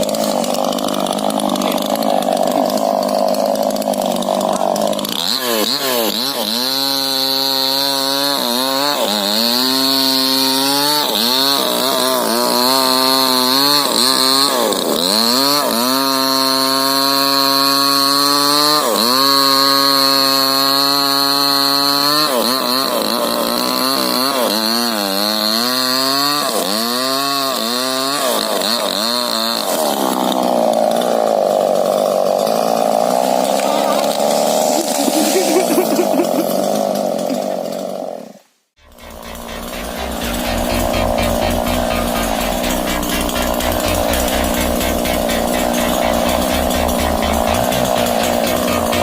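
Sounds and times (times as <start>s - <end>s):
chainsaw cutting wood: 0.0s - 49.0s.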